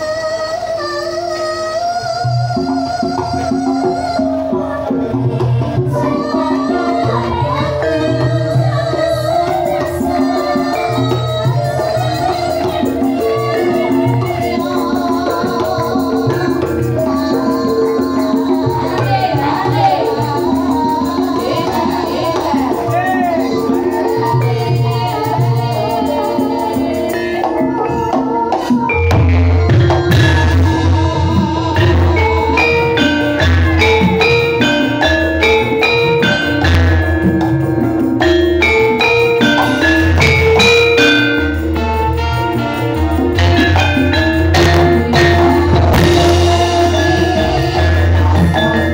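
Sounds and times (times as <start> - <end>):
person singing wavering vocal: 0.0 - 41.7, 42.7 - 48.9
sustained metallophone tones: 0.0 - 48.9.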